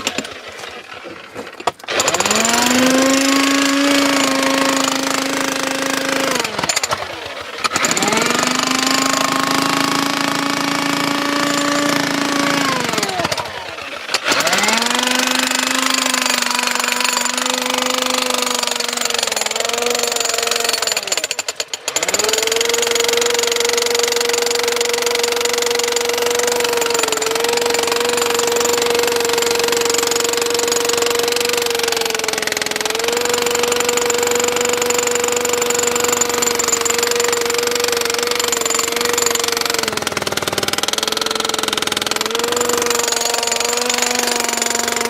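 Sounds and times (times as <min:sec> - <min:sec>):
demolition hammer breaking concrete: 0:00.0 - 0:45.0.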